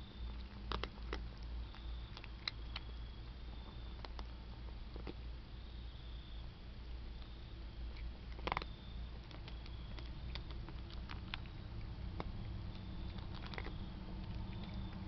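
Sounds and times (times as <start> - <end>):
steady low hum: 0.0 - 15.0
cat crunching a snack: 0.1 - 5.3, 6.9 - 15.0.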